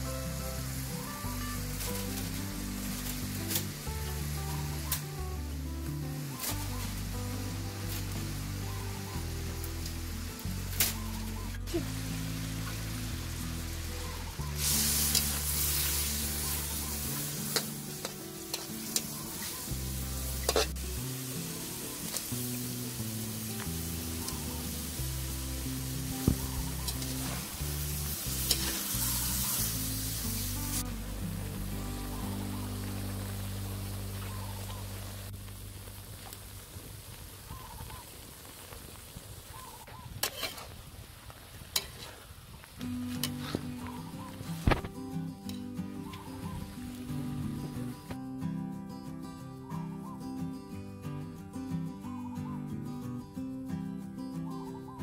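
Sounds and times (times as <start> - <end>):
boiling liquid bubbling hiss: 0.0 - 45.0.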